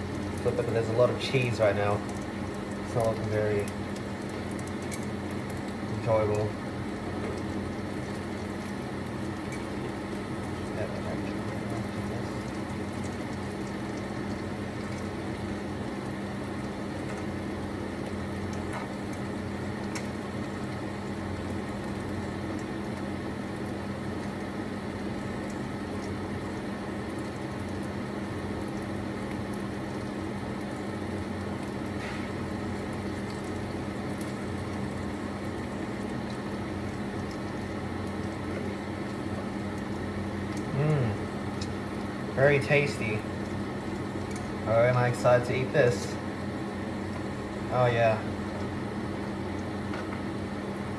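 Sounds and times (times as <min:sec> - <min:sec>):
oil sizzling and crackling: 0:00.0 - 0:50.9
steady low hum: 0:00.0 - 0:50.9.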